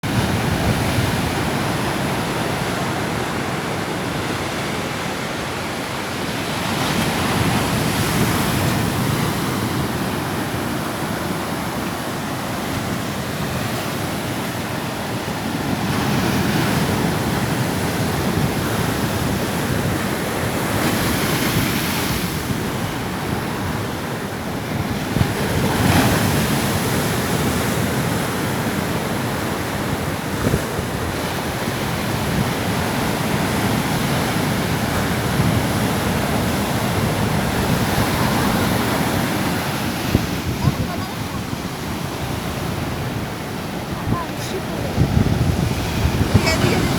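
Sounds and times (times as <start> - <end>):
wind on microphone: 0.0 - 4.3, 6.4 - 46.9
waves breaking on beach: 0.0 - 46.9.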